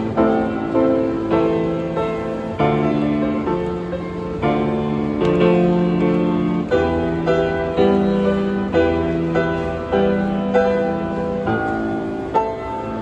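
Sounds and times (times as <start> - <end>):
grand piano playing: 0.0 - 13.0.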